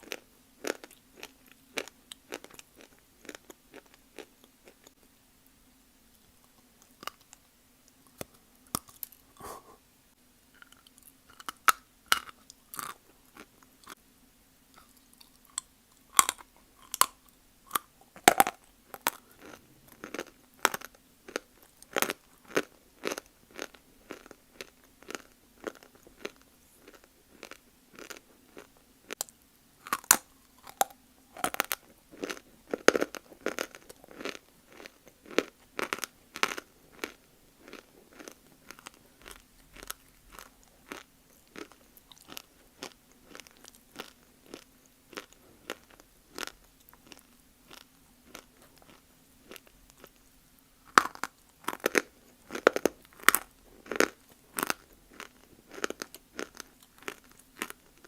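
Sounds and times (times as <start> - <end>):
person chewing crunchy clay: 0.0 - 5.0, 8.0 - 9.8, 10.6 - 14.0, 14.7 - 50.2, 50.8 - 58.0.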